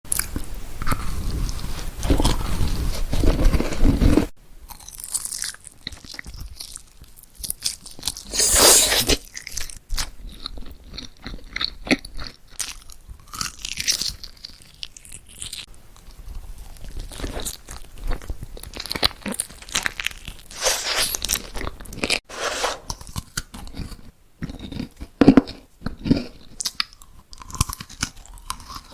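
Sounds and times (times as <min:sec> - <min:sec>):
crunchy chewing: 0:00.1 - 0:28.9.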